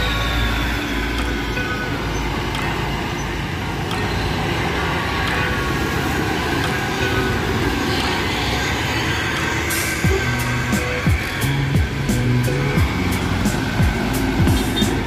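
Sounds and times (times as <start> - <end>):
road traffic rumbling past: 0.0 - 15.0.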